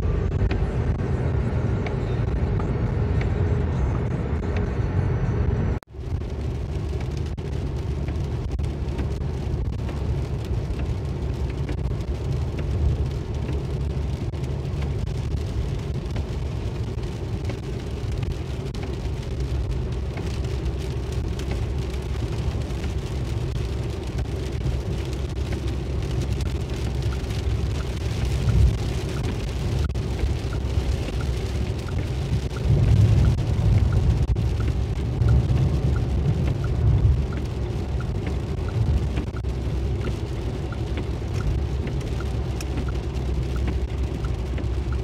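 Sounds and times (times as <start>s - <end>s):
car driving low rumble: 0.0s - 45.0s
rain on windscreen: 0.0s - 45.0s.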